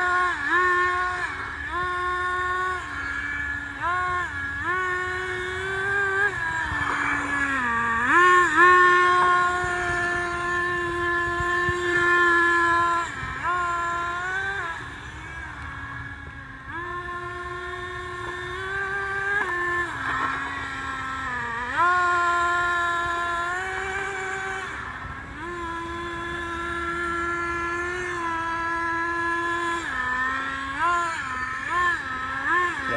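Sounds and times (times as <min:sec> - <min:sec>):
toy car motor whine: 0:00.0 - 0:32.9.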